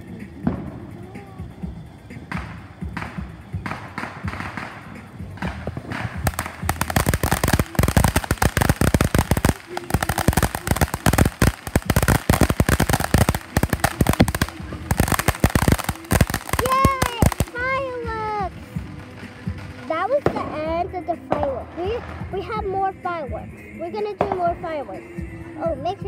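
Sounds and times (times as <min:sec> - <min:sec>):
fireworks crackling: 0:00.0 - 0:25.3.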